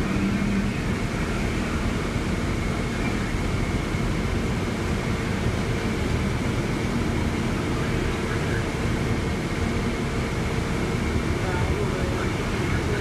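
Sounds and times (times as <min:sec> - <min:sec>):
bus engine and cabin rumble: 0:00.0 - 0:13.0
faint steady whine: 0:00.0 - 0:13.0.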